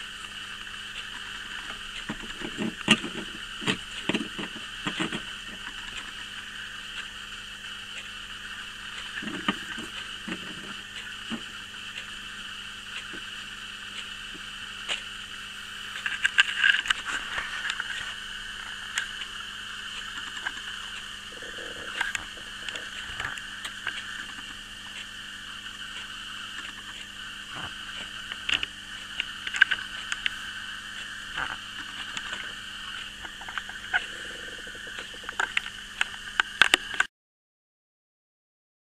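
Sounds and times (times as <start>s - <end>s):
small gear drive whirring: 0.0s - 37.1s.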